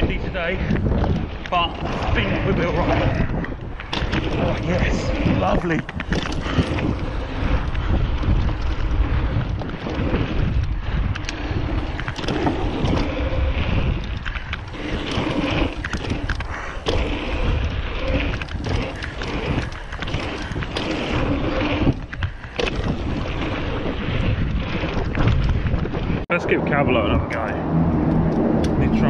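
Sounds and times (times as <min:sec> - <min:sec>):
bike knocking and rattling: 0:00.0 - 0:26.3
bike tyres rolling over gravel: 0:00.0 - 0:26.3
wind buffeting microphone: 0:00.0 - 0:29.0.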